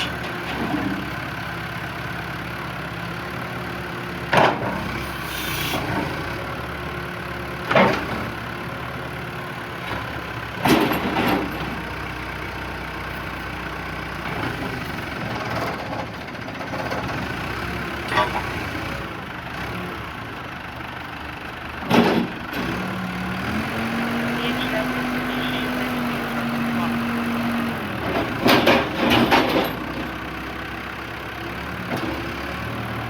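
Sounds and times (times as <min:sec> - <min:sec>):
diesel engine idling: 0:00.1 - 0:33.0.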